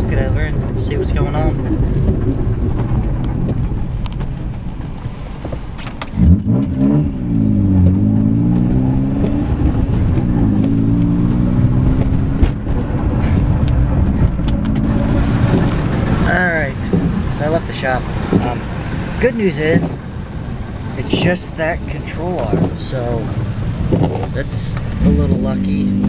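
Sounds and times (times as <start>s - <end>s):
car engine revving: 0.0s - 26.0s
road noise inside car: 0.0s - 26.0s.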